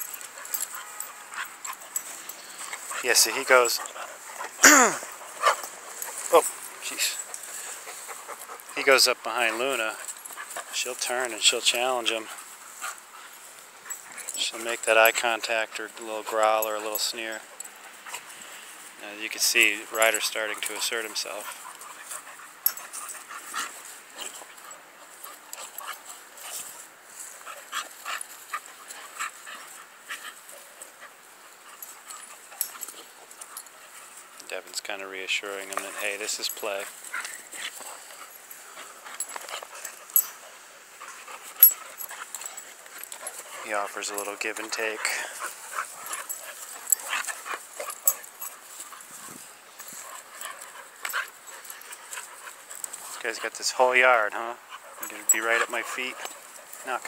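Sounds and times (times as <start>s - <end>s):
dogs play-fighting: 0.0s - 57.0s.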